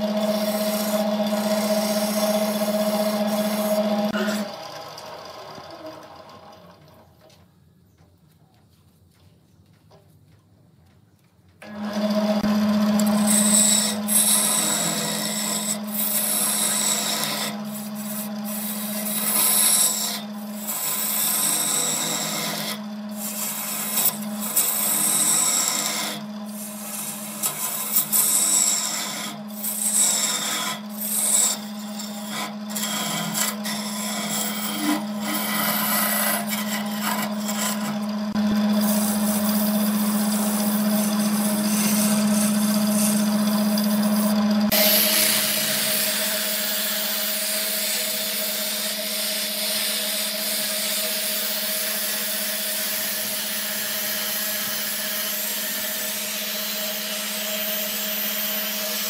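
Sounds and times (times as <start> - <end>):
turning tool scraping wood: 0.0 - 4.6, 11.7 - 57.1
wood lathe humming: 0.0 - 7.0, 11.6 - 59.0.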